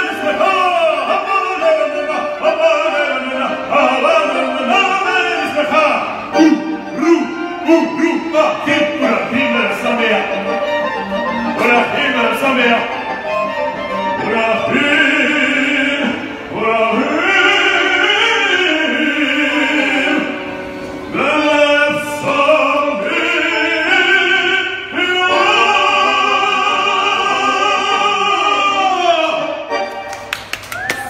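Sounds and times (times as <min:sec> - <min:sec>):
man singing into microphone: 0:00.0 - 0:10.8, 0:11.4 - 0:13.1, 0:13.9 - 0:29.8.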